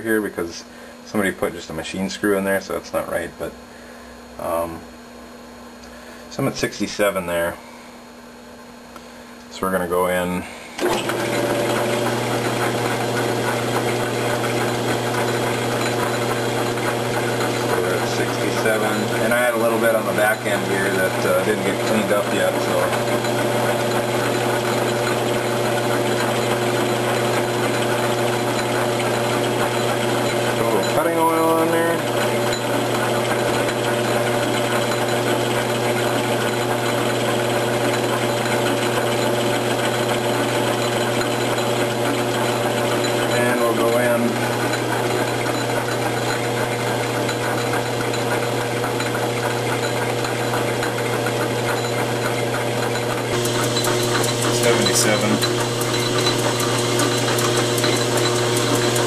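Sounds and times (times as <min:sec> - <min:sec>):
metal lathe humming: 0:10.7 - 0:59.0
parting tool cutting metal: 0:10.8 - 0:59.0.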